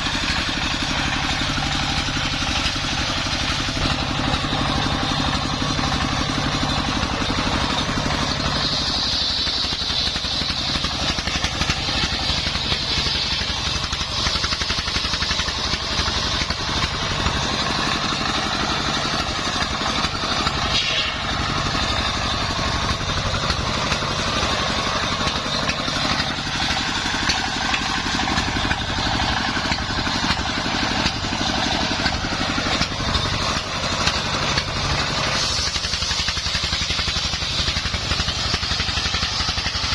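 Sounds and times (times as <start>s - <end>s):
sawmill blade whining through wood: 0.0s - 39.9s.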